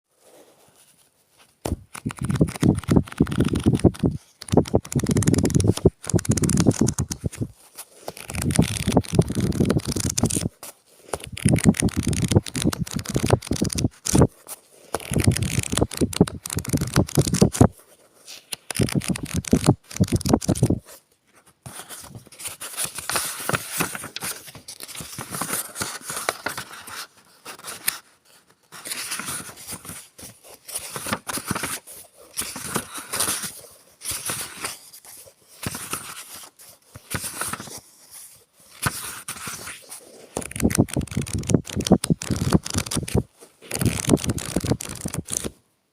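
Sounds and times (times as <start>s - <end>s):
book pages rustling: 0.2s - 45.6s.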